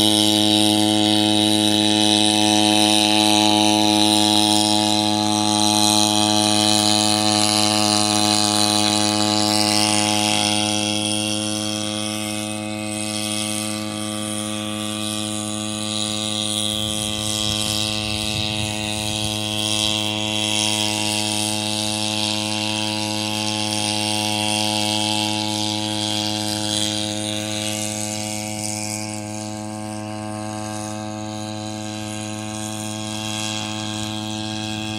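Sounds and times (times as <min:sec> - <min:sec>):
drone engine and propellers humming: 0:00.0 - 0:34.9.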